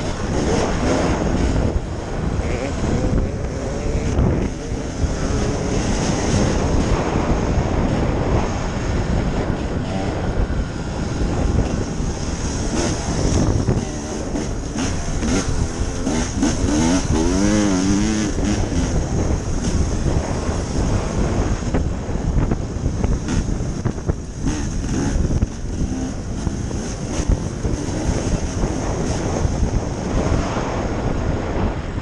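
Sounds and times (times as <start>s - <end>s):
dirt bike engine revving: 0.0s - 31.4s.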